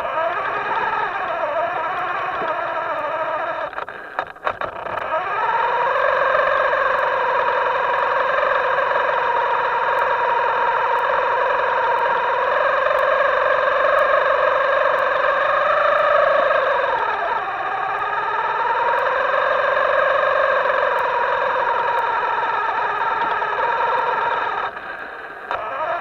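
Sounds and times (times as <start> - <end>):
clicks: 0.0 - 26.0
toy boat electric motor whining: 0.0 - 26.0.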